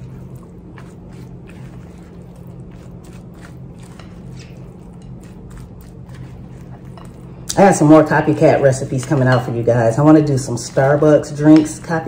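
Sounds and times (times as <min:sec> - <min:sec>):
spatula scraping stuffing in bowl: 0:00.0 - 0:12.0
steady low hum: 0:00.0 - 0:12.0.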